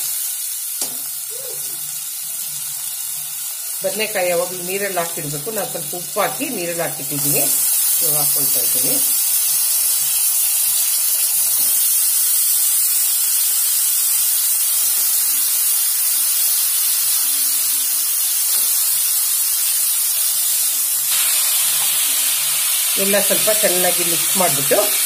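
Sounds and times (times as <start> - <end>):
vegetables sizzling in hot oil: 0.0 - 25.0.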